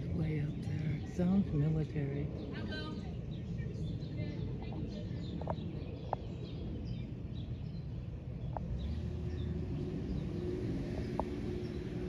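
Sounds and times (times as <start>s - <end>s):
aircraft rumbling overhead: 0.0s - 12.0s
birds chirping: 0.0s - 12.0s.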